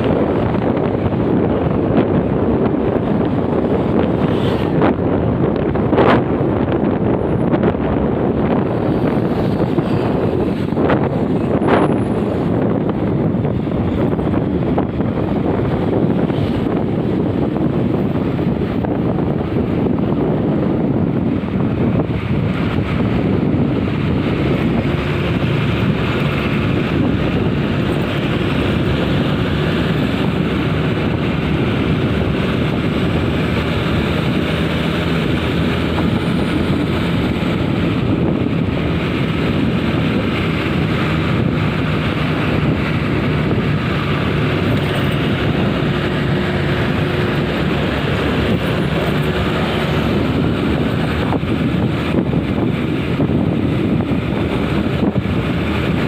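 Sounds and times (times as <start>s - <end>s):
low engine drone: 0.0s - 56.0s
road rumble: 0.0s - 56.0s
wind buffeting microphone: 0.0s - 56.0s.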